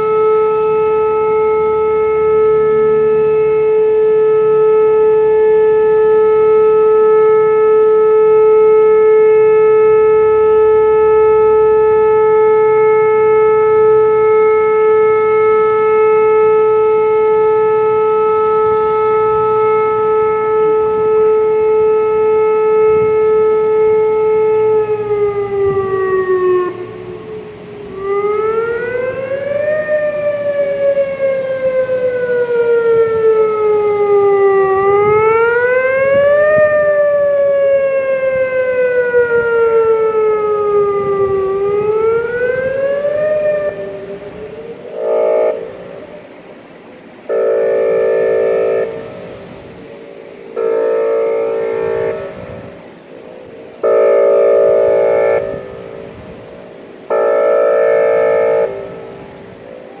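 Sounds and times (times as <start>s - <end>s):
steady horn-like siren blasts: 0.0s - 60.0s
warning siren wailing: 0.0s - 60.0s.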